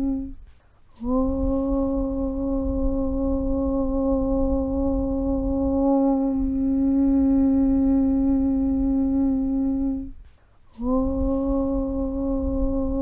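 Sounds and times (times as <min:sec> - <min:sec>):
low rumble: 0:00.0 - 0:13.0
person humming aum drone: 0:00.0 - 0:13.0.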